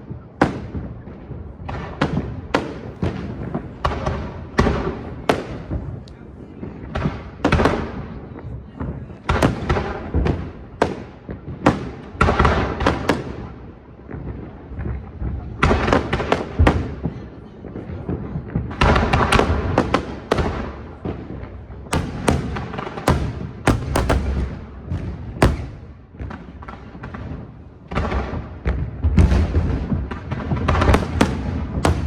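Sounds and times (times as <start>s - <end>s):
fireworks bursting with echo: 0.0s - 32.0s.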